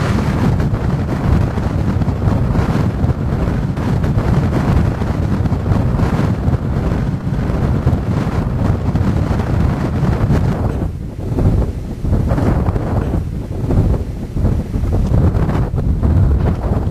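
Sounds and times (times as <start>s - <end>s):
gusty wind buffeting microphone: 0.0s - 16.9s.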